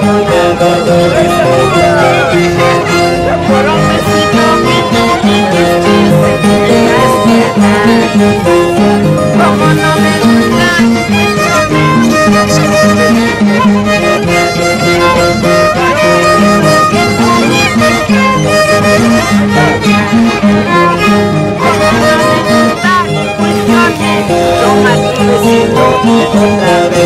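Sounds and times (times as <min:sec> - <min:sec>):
harp plucking bass line: 0:00.0 - 0:27.0
violin melody: 0:00.0 - 0:27.0.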